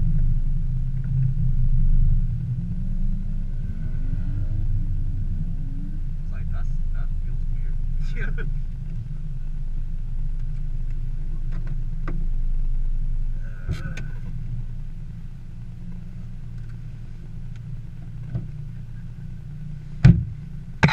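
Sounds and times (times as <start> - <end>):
car engine low rumble: 0.0 - 20.9.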